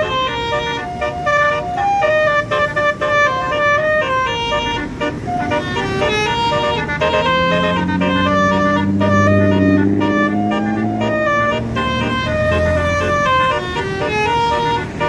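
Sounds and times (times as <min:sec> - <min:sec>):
low steady horn note: 0:00.0 - 0:15.0
musical air horn playing a tune: 0:00.0 - 0:15.0.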